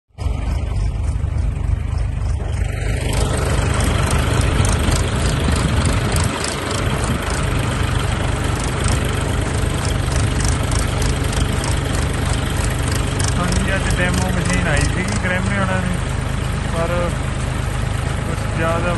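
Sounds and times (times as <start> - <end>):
tractor diesel engine rumbling: 0.1 - 18.9
digging machinery clattering: 0.2 - 18.9.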